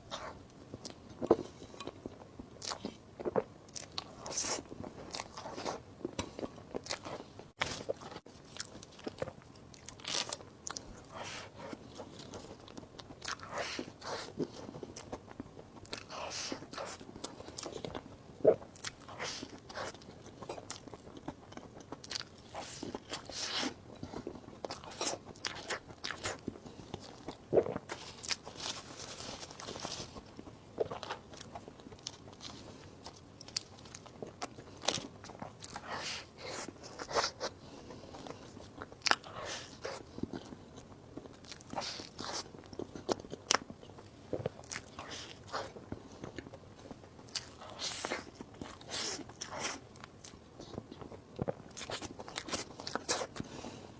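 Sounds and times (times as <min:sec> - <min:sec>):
person chewing: 0:00.1 - 0:53.8.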